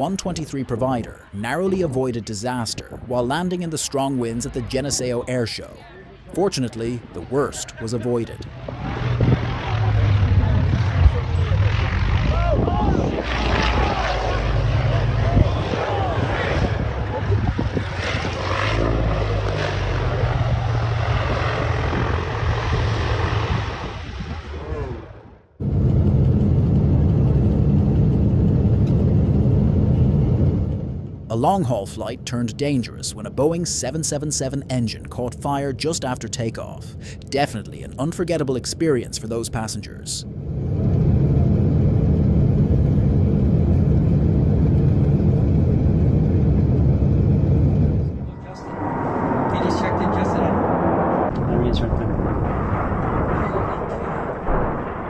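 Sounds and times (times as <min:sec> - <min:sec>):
propeller engines running loudly: 0:05.5 - 0:35.9, 0:40.2 - 0:54.6
heavy low rumble: 0:06.7 - 0:39.1, 0:40.2 - 0:55.0.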